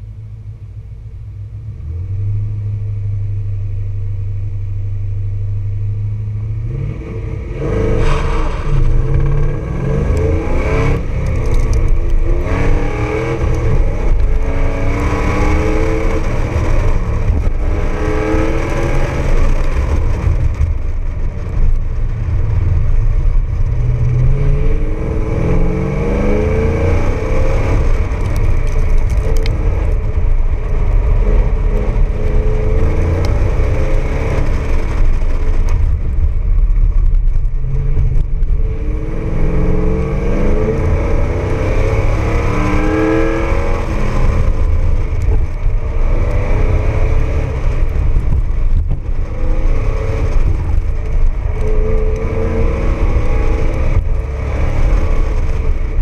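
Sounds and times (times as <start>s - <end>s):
car engine accelerating hard: 0.0s - 56.0s
wind and tyre rumble: 0.0s - 56.0s.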